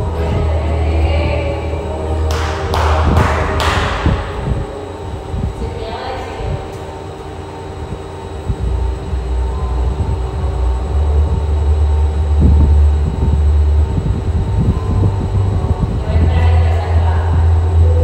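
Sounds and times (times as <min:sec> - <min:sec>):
deep low rumble: 0:00.0 - 0:18.0
faint steady hum: 0:00.0 - 0:18.0.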